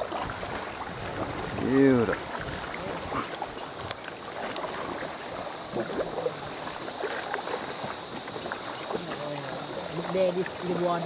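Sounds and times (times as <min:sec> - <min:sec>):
small splashes: 0:00.0 - 0:11.0
water lapping and trickling: 0:00.0 - 0:11.0.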